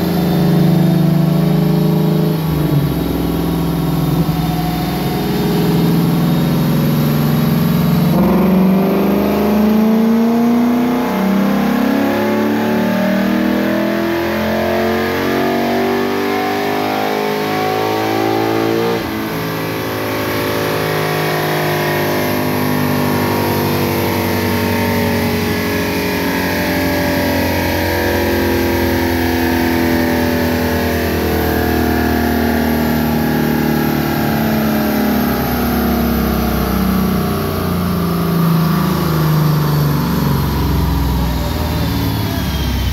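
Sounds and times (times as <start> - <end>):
car engine running hard: 0.0 - 42.9.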